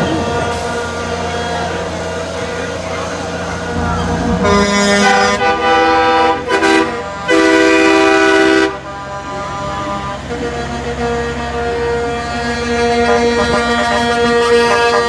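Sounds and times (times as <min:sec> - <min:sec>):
truck horn honking: 0:00.0 - 0:15.0.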